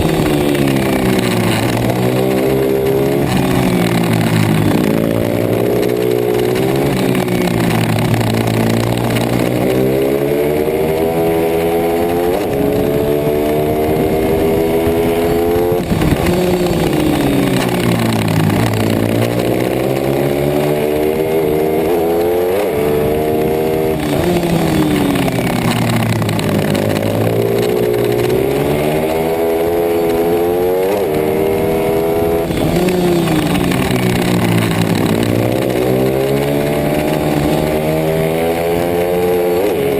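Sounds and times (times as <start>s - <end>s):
motorbike engine revving hard: 0.0s - 39.9s.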